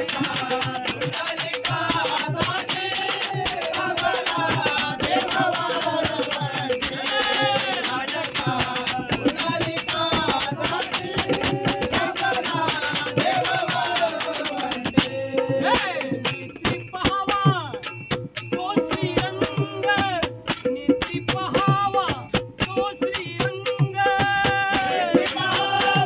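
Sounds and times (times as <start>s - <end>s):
fast jingling percussion: 0.0s - 26.0s.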